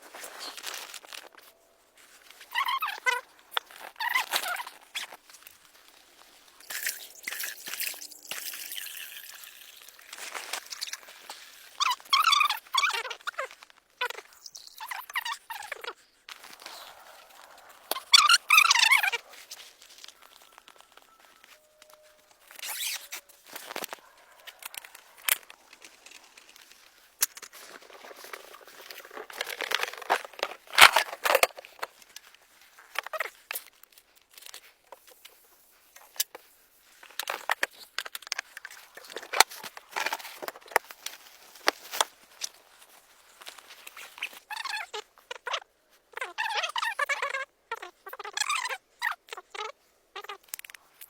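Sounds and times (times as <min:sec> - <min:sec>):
rustling and tearing material: 0:00.0 - 0:08.2, 0:09.5 - 0:14.5, 0:15.2 - 0:45.0.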